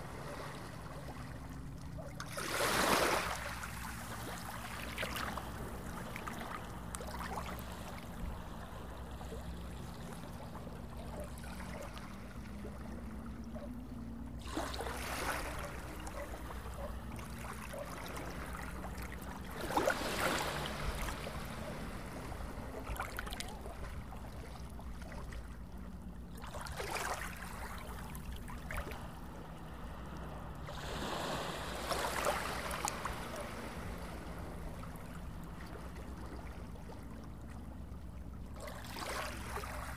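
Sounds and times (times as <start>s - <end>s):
low steady hum: 3.1s - 39.9s.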